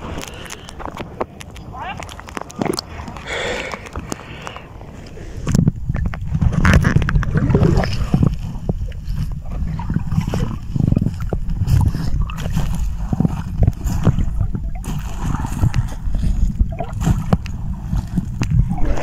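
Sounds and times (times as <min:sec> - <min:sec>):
sea water sloshing: 0:00.0 - 0:19.0.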